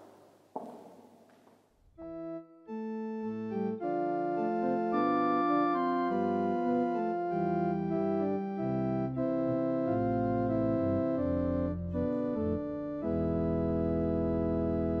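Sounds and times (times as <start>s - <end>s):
church organ chords: 2.0s - 15.0s.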